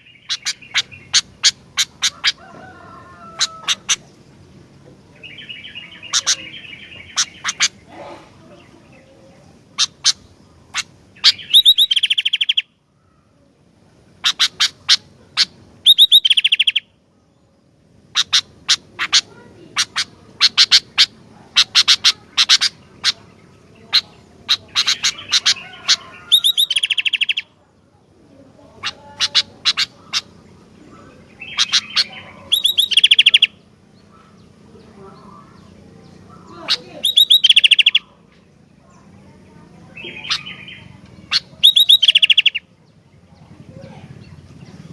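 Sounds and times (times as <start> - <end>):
bird chips and trills: 0.0 - 9.1, 9.7 - 12.7, 14.1 - 17.0, 18.0 - 27.6, 28.7 - 44.9
faint low hum: 0.0 - 44.9.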